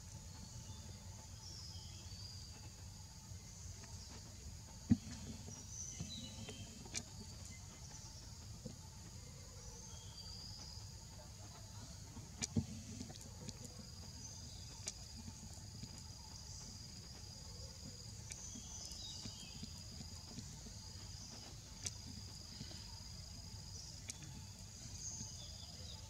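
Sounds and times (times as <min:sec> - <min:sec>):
insects chirping: 0:00.0 - 0:26.0
low steady rumble: 0:00.0 - 0:26.0
birds chirping: 0:00.4 - 0:26.0.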